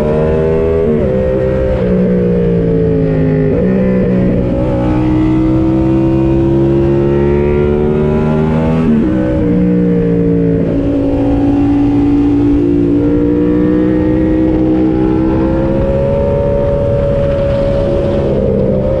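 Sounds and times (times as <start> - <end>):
motorcycle engine under way: 0.0 - 19.0.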